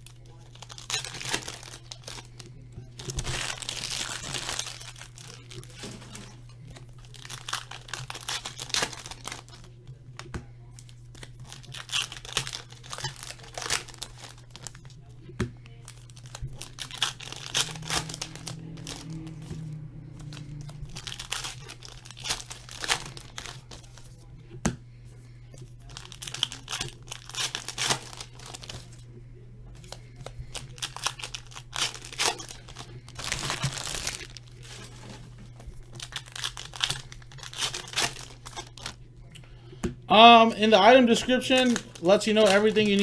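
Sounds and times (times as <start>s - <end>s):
foil wrappers tearing and crinkling: 0.0s - 24.3s, 25.6s - 29.0s, 29.8s - 39.0s, 40.2s - 43.0s
steady low hum: 0.0s - 43.0s.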